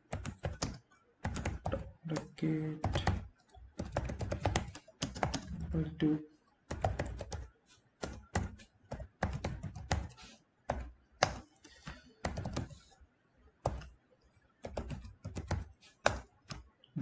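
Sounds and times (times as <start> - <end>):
typing on computer keyboard: 0.0 - 5.5, 6.7 - 12.9, 13.6 - 13.9, 14.6 - 16.7.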